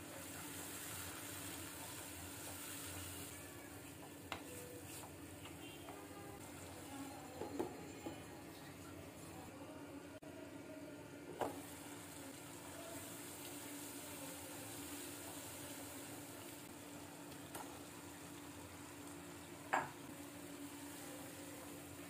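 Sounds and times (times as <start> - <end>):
masala sizzling faintly in a pan: 0.0 - 22.0.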